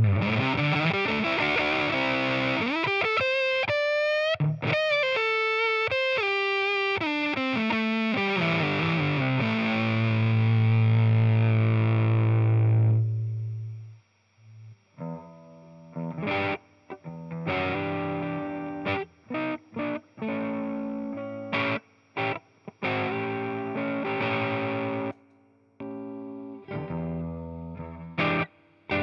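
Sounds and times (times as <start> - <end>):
distorted electric guitar chords: 0.0 - 14.0, 14.6 - 29.0.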